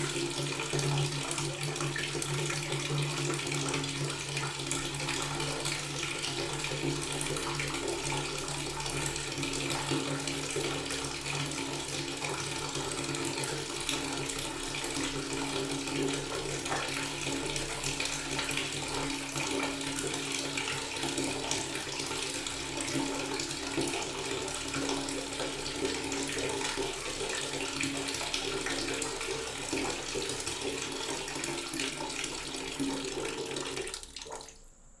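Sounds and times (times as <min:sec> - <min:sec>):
water tap running: 0:00.0 - 0:34.6.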